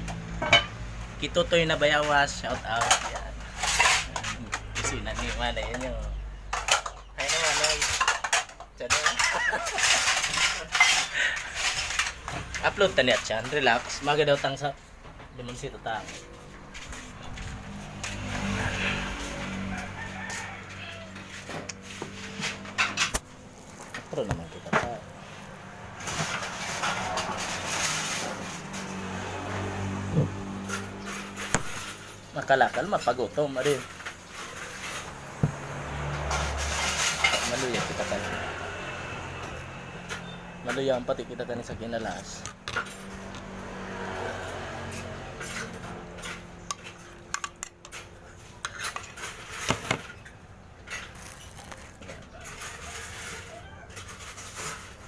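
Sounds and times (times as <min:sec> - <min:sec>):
vehicle engine humming: 0:00.0 - 0:07.2, 0:10.0 - 0:55.0.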